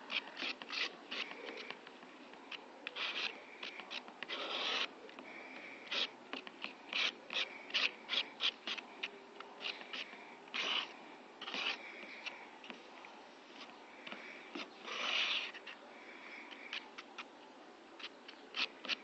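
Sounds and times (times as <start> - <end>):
putty knife scraping cardboard: 0.0 - 12.8, 13.6 - 15.8, 18.0 - 19.0.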